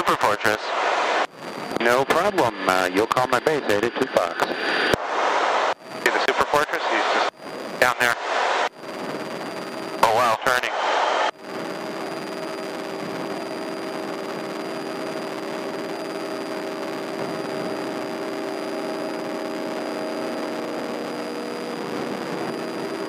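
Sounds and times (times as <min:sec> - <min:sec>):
airplane engine droning: 0:00.0 - 0:23.0.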